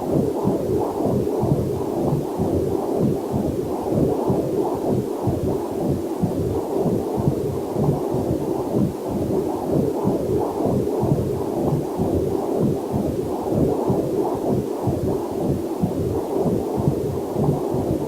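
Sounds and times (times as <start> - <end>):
fetal heartbeat whooshing pulses: 0.0 - 18.0.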